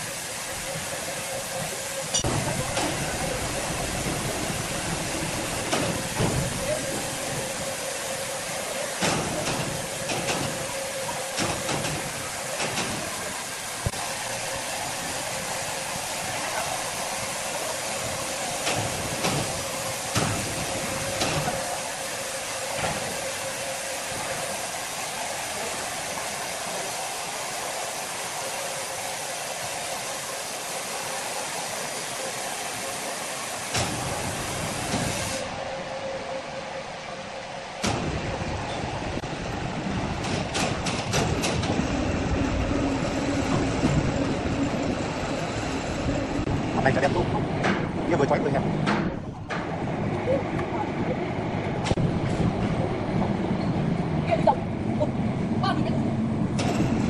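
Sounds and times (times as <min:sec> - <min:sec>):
sawmill machinery hissing and humming: 0:00.0 - 0:57.0.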